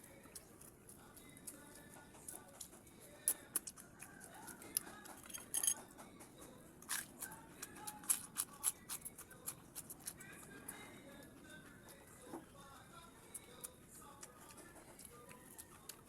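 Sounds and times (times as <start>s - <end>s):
chewing: 0.0s - 16.0s.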